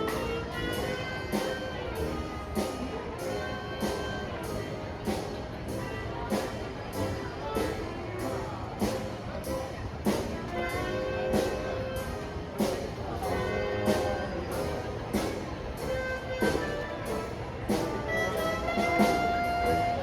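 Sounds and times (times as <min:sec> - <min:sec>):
held orchestral notes: 0:00.0 - 0:20.0
steady drum beat: 0:00.0 - 0:20.0.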